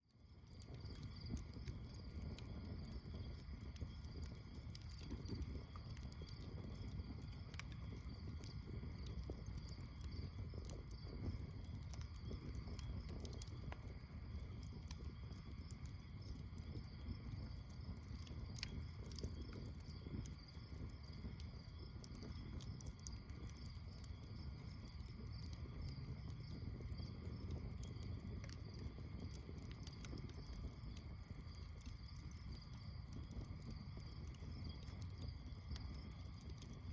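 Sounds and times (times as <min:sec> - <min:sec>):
campfire crackling and popping: 0:00.2 - 0:36.9
insects chirping: 0:00.3 - 0:36.9.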